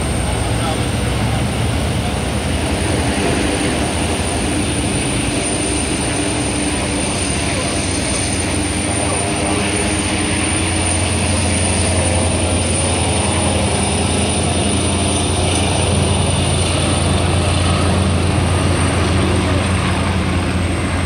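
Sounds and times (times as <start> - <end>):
ferry engines running hard: 0.0 - 21.0.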